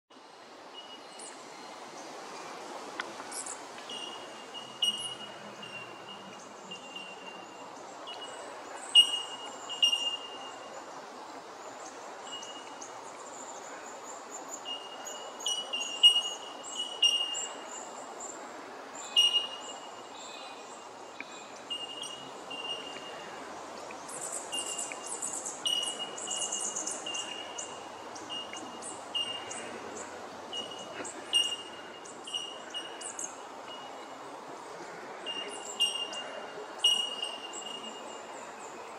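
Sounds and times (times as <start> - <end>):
steady outdoor hiss: 0.1 - 38.9
birds ringing calls: 3.2 - 18.4, 19.0 - 34.2, 35.2 - 38.9.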